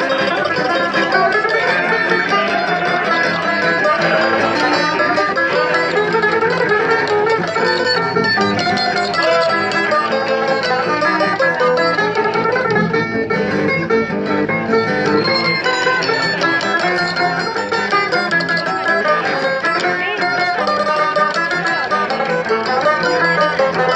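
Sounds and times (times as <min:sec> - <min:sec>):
acoustic guitar: 0:00.0 - 0:23.9
banjo: 0:00.0 - 0:23.9
mandolin plucking quick notes: 0:00.0 - 0:23.9.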